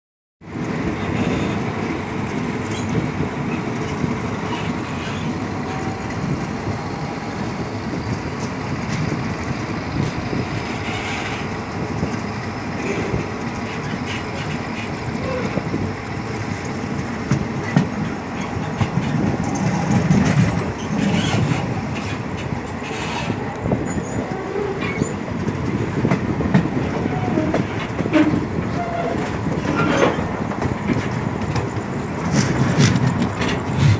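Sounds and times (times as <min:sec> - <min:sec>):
diesel train rumble: 0:00.4 - 0:33.9
wheels clacking over rail joints: 0:00.5 - 0:33.9.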